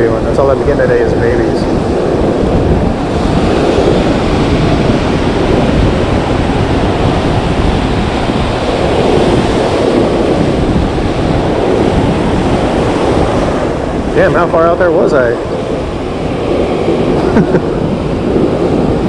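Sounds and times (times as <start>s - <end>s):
ocean waves breaking: 0.0s - 19.0s
wind on microphone: 0.0s - 19.0s.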